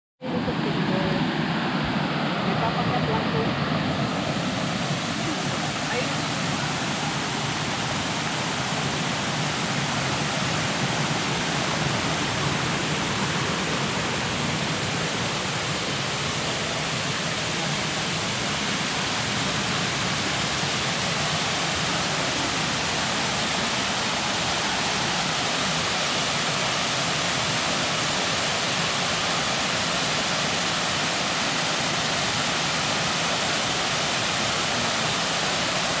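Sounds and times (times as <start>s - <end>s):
waterfall rushing: 0.2s - 36.0s.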